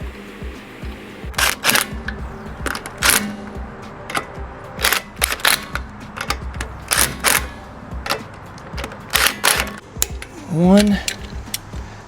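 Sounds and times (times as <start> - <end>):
metallic clicks of hand tools: 1.4 - 3.4, 4.1 - 11.8.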